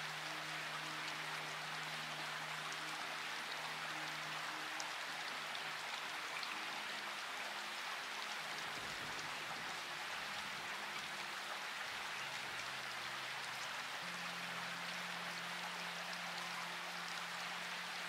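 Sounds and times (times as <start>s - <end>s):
soft low music notes: 0.0s - 18.0s
steady rain falling: 0.0s - 18.0s.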